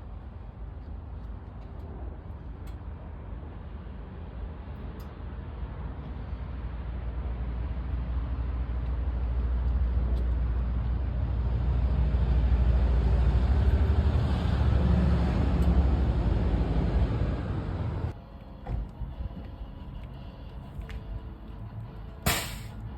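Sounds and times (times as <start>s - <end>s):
vehicle engine rumble: 0.0s - 22.9s.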